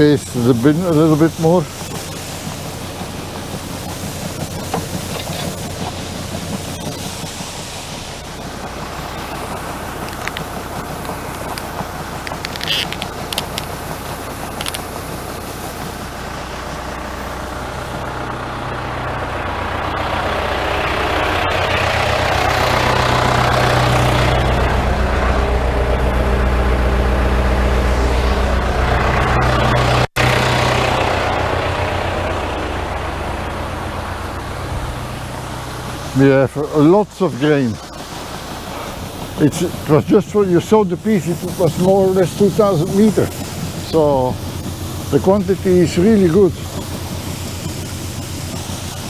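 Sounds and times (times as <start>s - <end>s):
farm machinery humming: 0.0s - 49.0s.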